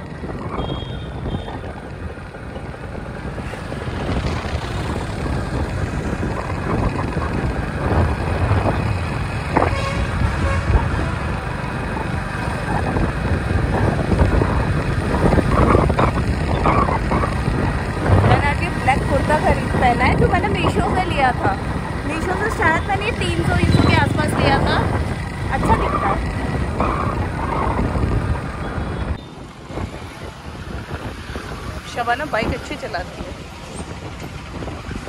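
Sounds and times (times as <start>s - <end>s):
motorbike engine: 0.0s - 29.2s.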